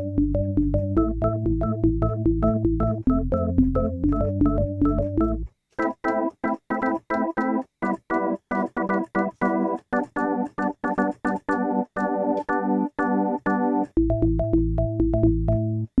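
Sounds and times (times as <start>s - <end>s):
organ-like synthesizer with walking bass: 0.0s - 16.0s.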